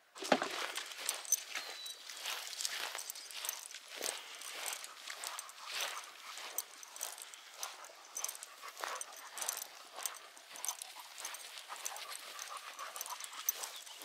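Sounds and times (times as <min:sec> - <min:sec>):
footsteps crunching on trail: 0:00.2 - 0:14.0.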